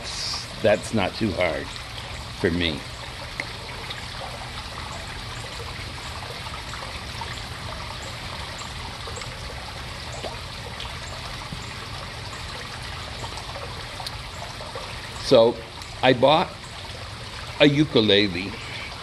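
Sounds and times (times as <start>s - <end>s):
water trickling: 0.0s - 19.0s.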